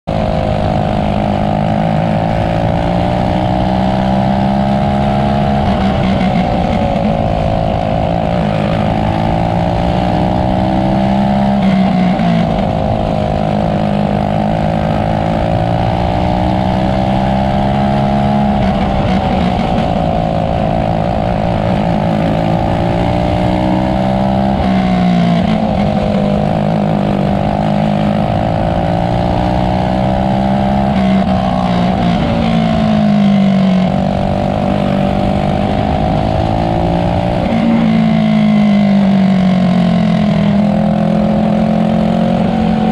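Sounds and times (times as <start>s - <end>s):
kart engine racing: 0.0s - 42.9s.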